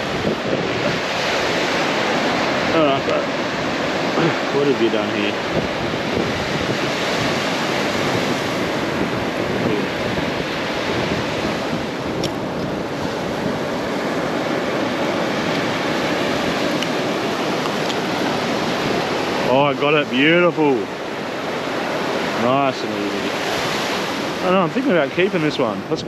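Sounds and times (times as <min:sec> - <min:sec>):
surf breaking on beach: 0:00.0 - 0:26.0
wind buffeting microphone: 0:00.0 - 0:26.0.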